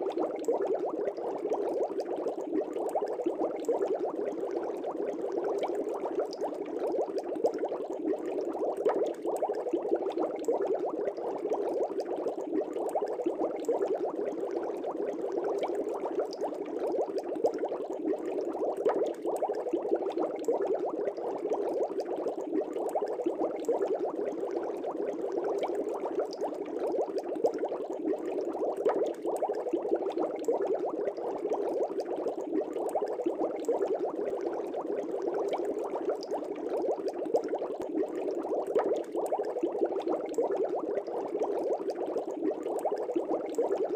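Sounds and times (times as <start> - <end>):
aquarium air bubbling: 0.0 - 43.9.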